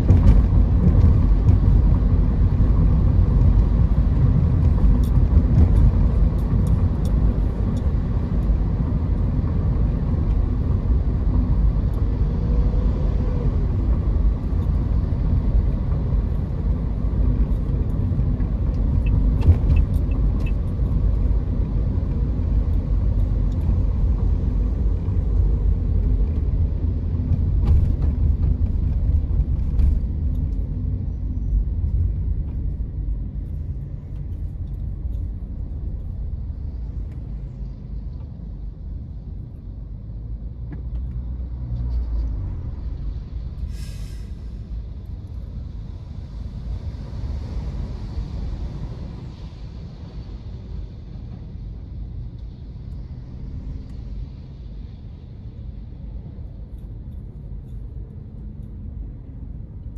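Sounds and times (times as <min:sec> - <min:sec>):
car engine rumble: 0:00.0 - 0:59.9
tyres on road: 0:00.0 - 0:59.9.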